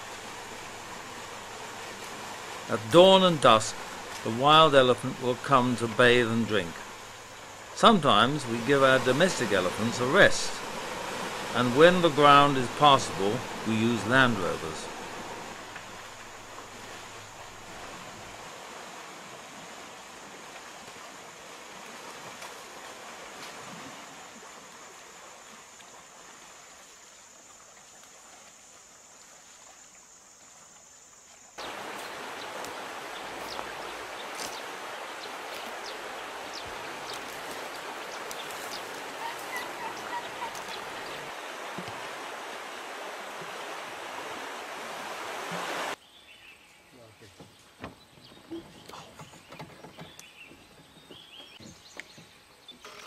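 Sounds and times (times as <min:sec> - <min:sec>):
elephant spraying water: 0:00.0 - 0:30.0, 0:31.6 - 0:46.0
river water running and splashing: 0:00.0 - 0:53.0.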